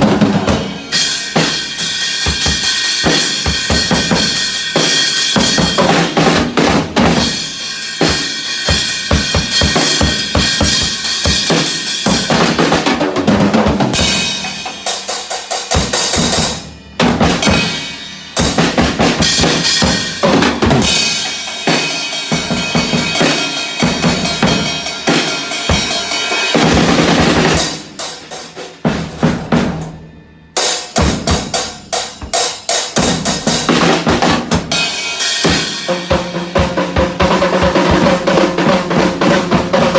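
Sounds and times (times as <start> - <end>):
snare and kick drum strokes: 0.0 - 30.0, 30.6 - 39.9
acoustic drum kit playing: 0.0 - 39.9.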